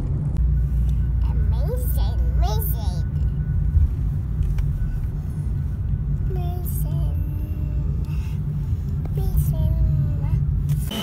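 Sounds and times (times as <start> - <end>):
car cabin engine and road noise: 0.0 - 11.0.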